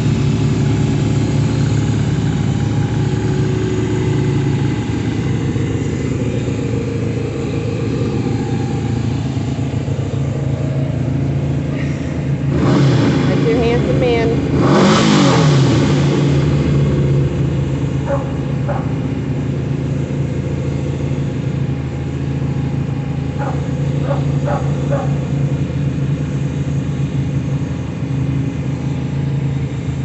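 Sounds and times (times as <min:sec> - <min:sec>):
motorcycle engines idling: 0:00.0 - 0:30.0.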